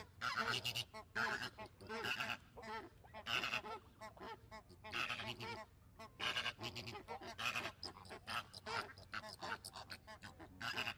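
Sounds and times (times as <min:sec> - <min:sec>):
flamingos honking: 0:00.0 - 0:10.9.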